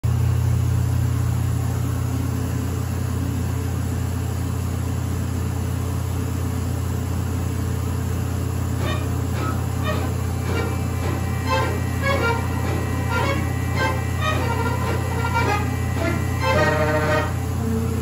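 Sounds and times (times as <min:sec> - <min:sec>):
vacuum pump humming: 0:00.1 - 0:18.0.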